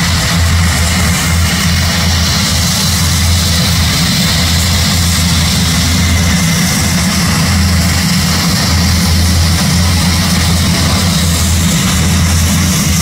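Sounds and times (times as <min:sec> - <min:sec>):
turboprop engines humming: 0:00.0 - 0:13.0.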